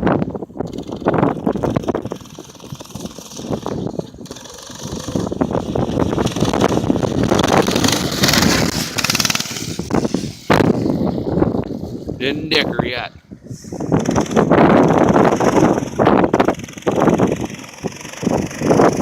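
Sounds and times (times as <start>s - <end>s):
mini bike engine revving: 0.0s - 12.2s, 13.5s - 19.0s.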